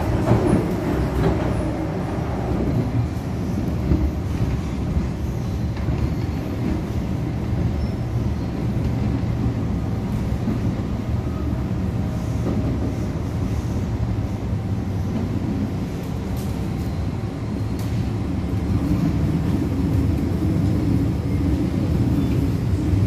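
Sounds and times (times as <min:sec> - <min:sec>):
train interior rumble: 0:00.0 - 0:23.0.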